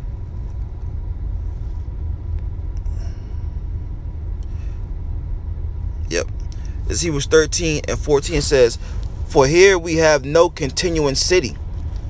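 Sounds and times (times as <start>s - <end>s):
faint steady tone: 0.0s - 12.0s
low background rumble: 0.0s - 12.0s.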